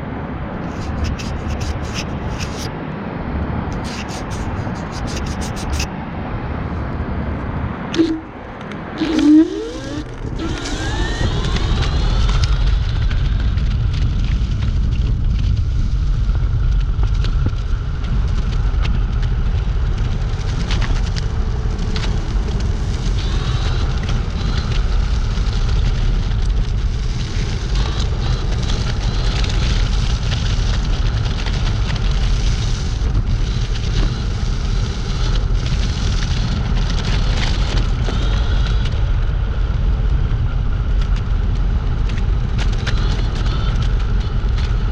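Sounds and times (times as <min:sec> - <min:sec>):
wind buffeting microphone: 0:00.0 - 0:44.9
steady crackling hiss: 0:03.8 - 0:05.9, 0:07.8 - 0:44.9
electric scooter motor whine: 0:07.9 - 0:16.3, 0:16.9 - 0:44.9.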